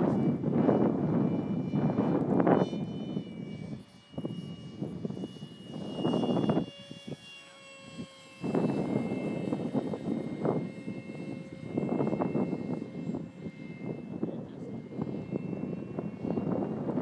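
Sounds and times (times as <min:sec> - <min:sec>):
electric motor high whine: 0:00.0 - 0:17.0.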